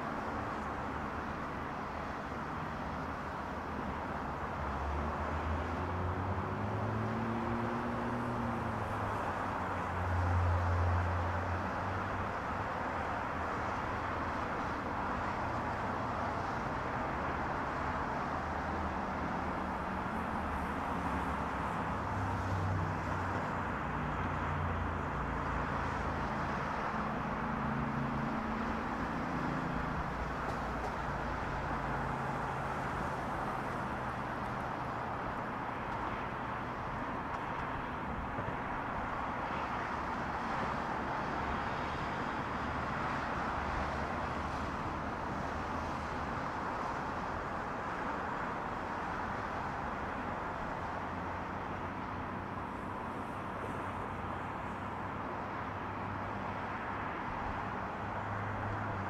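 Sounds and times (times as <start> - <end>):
distant highway traffic hiss: 0.0 - 59.0.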